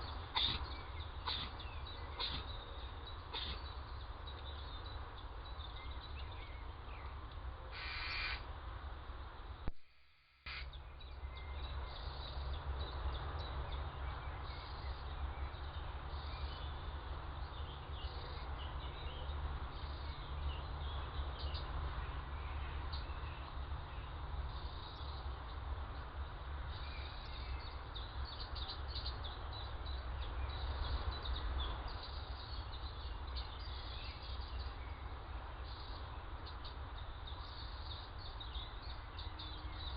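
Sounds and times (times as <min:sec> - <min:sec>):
low rumble and hiss: 0:00.0 - 0:39.9.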